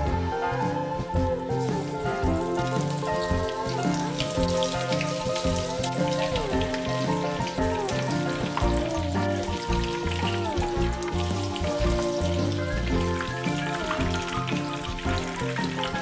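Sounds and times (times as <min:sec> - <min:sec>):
background music: 0:00.0 - 0:16.0
prawns sizzling in hot oil: 0:00.0 - 0:16.0.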